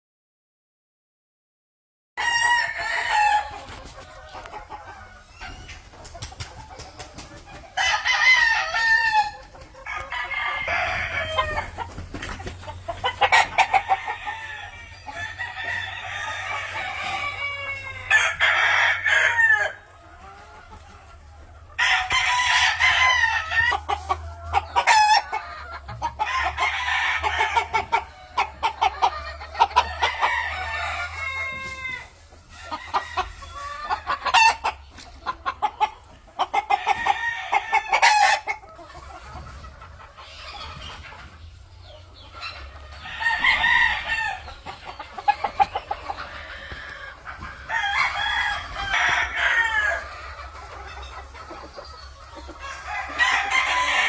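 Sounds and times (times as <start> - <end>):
roosters crowing: 2.2 - 41.1, 41.7 - 54.0
chickens clucking: 2.2 - 54.0.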